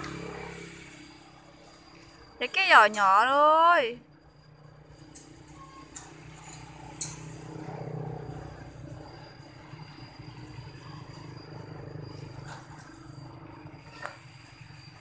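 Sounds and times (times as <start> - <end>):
small engine idling: 0.0 - 3.0, 4.1 - 15.0.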